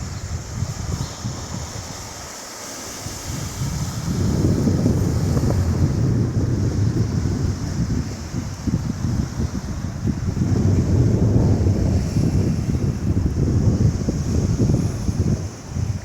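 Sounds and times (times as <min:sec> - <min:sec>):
sea surf hiss: 0:00.0 - 0:16.0
wind buffeting microphone: 0:00.0 - 0:16.0.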